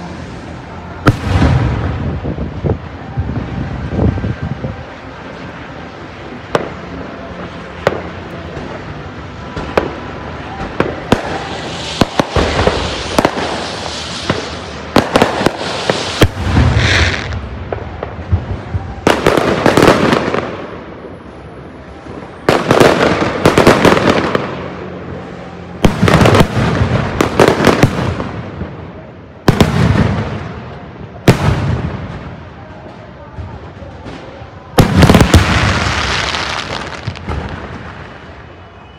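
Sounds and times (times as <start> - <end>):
firework volleys crackling: 0.0 - 38.9.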